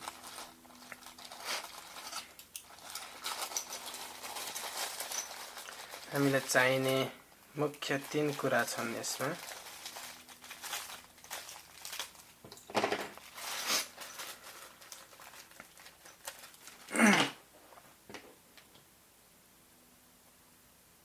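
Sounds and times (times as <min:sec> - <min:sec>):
objects rustling and crinkling: 0:00.0 - 0:18.8.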